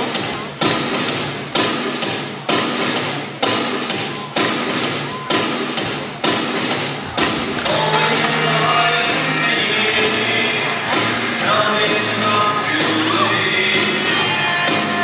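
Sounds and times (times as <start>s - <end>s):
dance music: 0.0s - 15.0s
heavy percussive hits: 0.0s - 15.0s.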